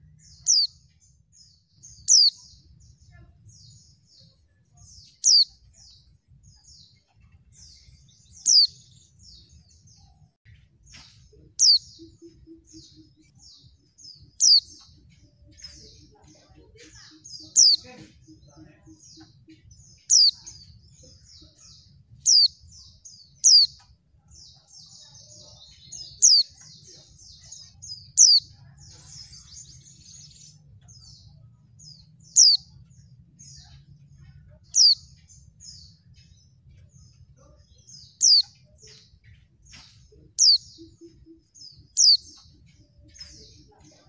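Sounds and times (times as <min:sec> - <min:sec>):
soft high bird twittering: 0:00.0 - 0:44.0.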